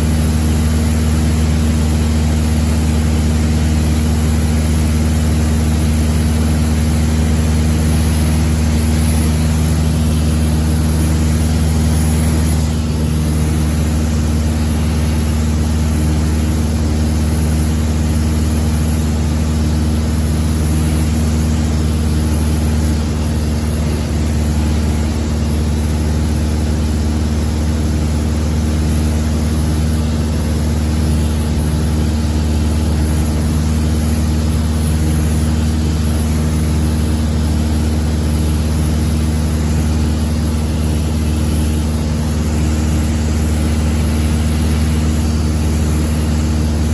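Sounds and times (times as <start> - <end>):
light aircraft engine droning: 0.0 - 46.9.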